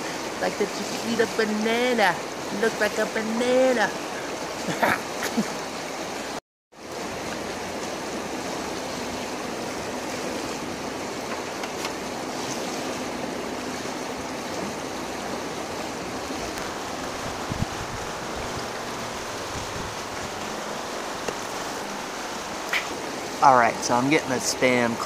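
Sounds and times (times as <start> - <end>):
flowing river water: 0.0 - 25.0.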